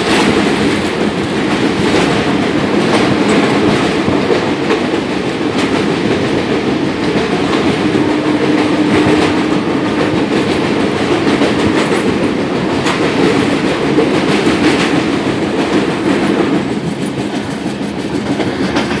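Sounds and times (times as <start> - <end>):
rail joints clickety-clack: 0.0 - 19.0
train wheels rumbling on rails: 0.0 - 19.0.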